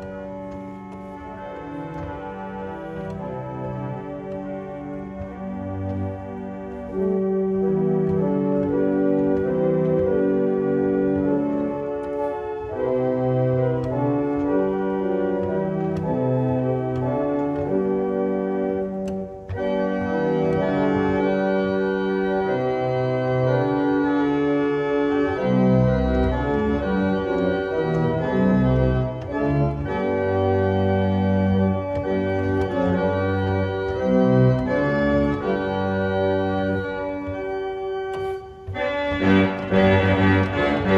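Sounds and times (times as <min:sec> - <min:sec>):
pipe organ chords: 0:00.0 - 0:40.9.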